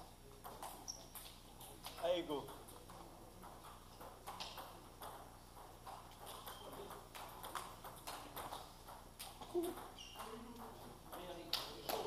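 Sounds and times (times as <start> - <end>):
table tennis balls clicking: 0.3 - 12.0.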